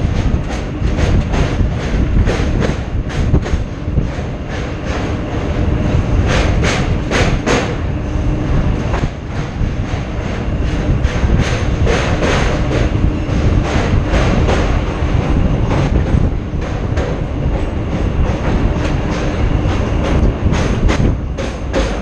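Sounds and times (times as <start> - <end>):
train wheels clattering over rail joints: 0.0 - 22.0
wind buffeting microphone: 0.0 - 22.0.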